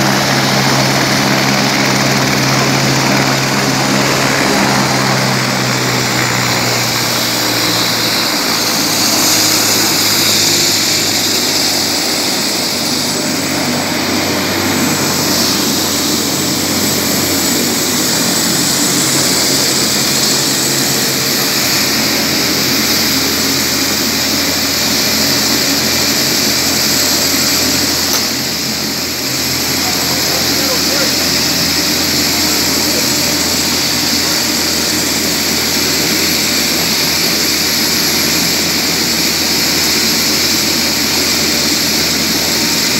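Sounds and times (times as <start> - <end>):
helicopter turbine and rotor: 0.0 - 42.9.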